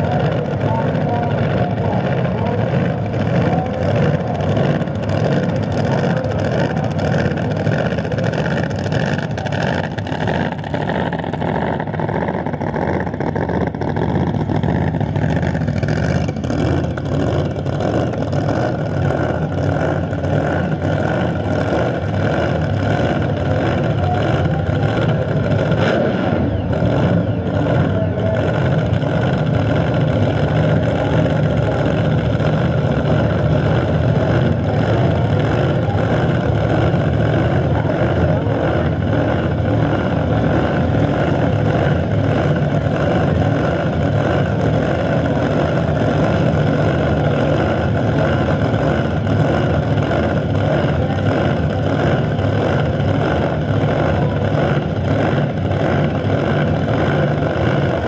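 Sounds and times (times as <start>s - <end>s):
race car engines running: 0.0s - 58.0s.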